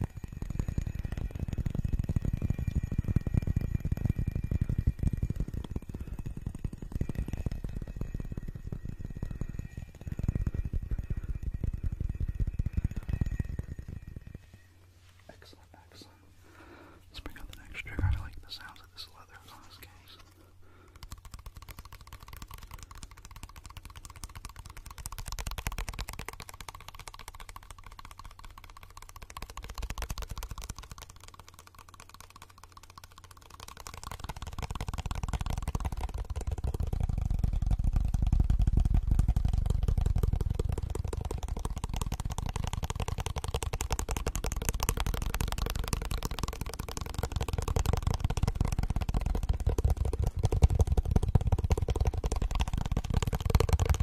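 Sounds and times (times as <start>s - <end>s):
fingertips tapping rapidly: 0.0s - 54.0s.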